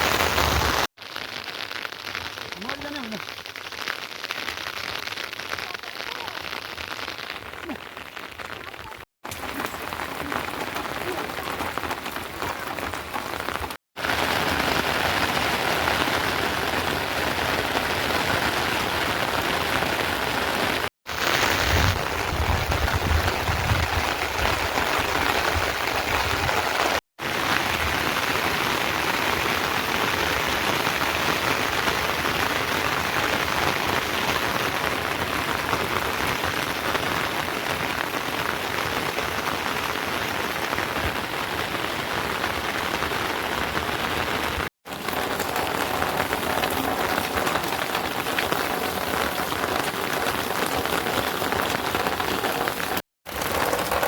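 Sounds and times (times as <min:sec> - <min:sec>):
steady rain hiss: 0:00.0 - 0:08.8, 0:13.2 - 0:54.0.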